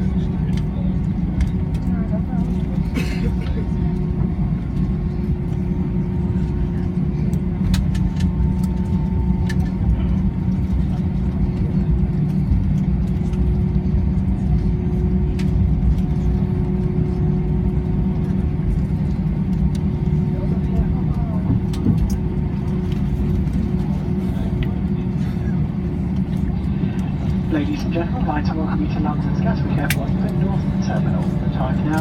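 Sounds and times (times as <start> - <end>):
airliner cabin rumble: 0.0 - 32.0
constant hum: 0.0 - 32.0.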